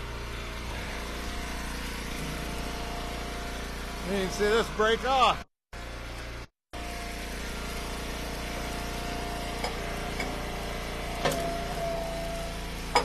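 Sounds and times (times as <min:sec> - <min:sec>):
wood splitter engine running: 0:00.0 - 0:13.0.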